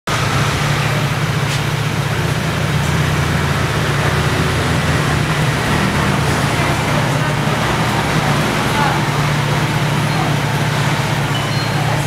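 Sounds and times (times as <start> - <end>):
low mechanical rumble: 0.1 - 12.0.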